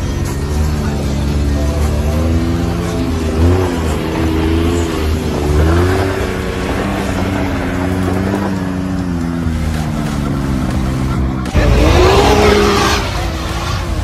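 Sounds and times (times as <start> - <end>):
utility vehicle engine revving: 0.0 - 14.0.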